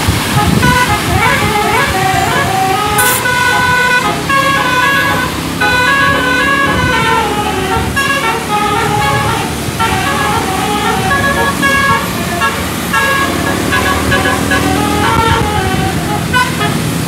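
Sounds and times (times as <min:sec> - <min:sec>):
bus engine running: 0:00.0 - 0:17.0
musical air horn playing a tune: 0:00.0 - 0:17.0.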